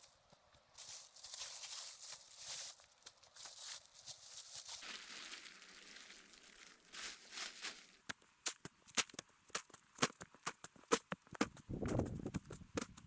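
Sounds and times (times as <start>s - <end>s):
faint rustling and crunching: 0.0s - 13.0s.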